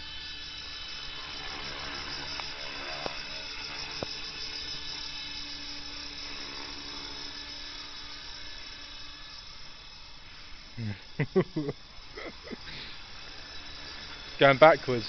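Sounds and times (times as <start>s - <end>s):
model helicopter whirring: 0.0s - 15.0s.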